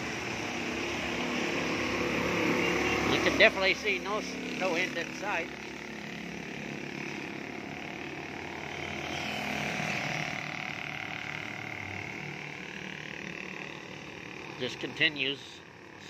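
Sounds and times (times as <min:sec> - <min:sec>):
small motorcycle passing: 0:00.0 - 0:16.0.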